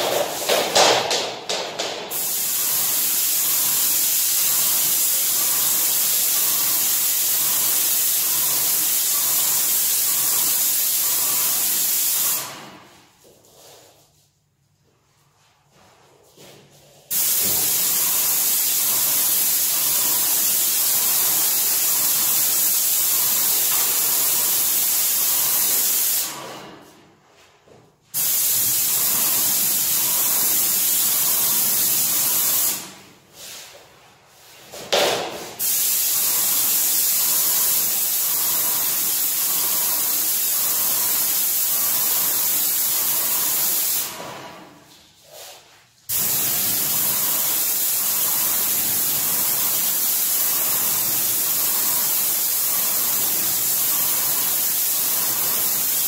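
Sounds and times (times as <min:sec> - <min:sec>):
paint sprayer hissing: 0:00.0 - 0:14.0, 0:15.7 - 0:27.0, 0:28.1 - 0:56.0.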